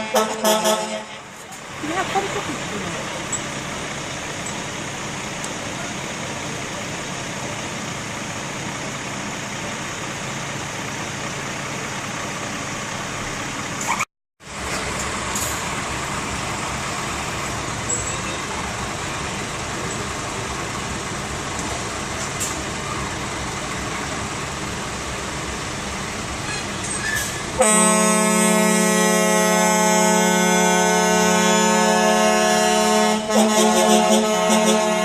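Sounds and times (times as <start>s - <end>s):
truck engine and road noise: 0.0s - 35.0s.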